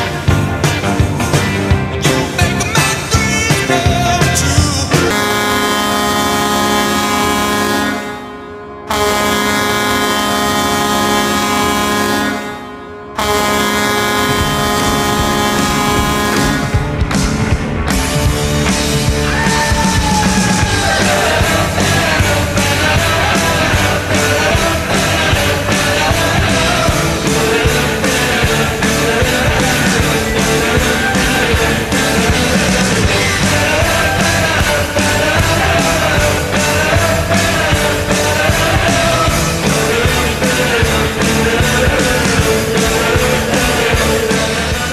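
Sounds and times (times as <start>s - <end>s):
rock song with singing: 0.0s - 8.3s, 9.0s - 44.9s.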